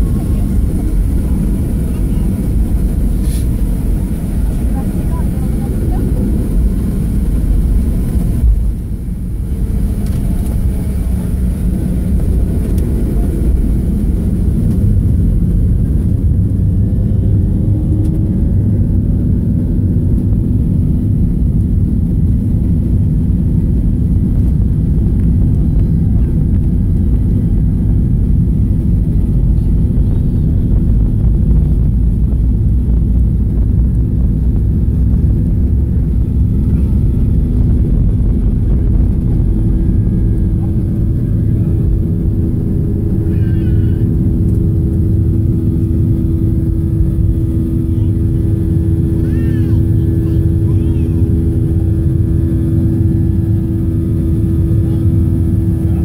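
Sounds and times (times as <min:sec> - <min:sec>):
jet engines roaring: 0:00.0 - 0:56.0
takeoff roll rumble: 0:00.0 - 0:56.0.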